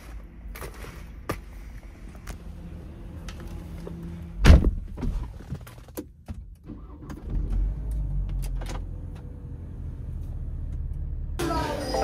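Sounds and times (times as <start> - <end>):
car engine starting and idling: 2.2 - 12.0.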